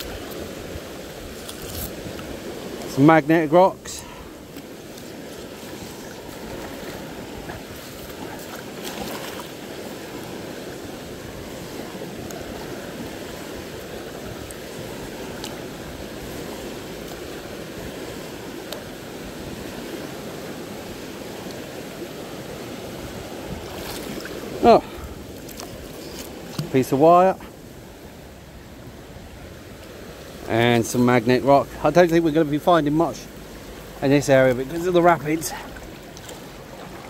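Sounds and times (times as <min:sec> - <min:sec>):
river water rushing over rapids: 0:00.0 - 0:37.0.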